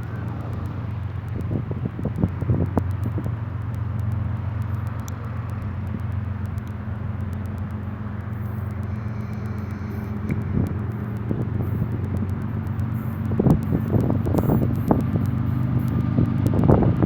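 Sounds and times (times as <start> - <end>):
diesel locomotive engine drone: 0.0 - 17.0
passing train rushing: 0.0 - 17.0.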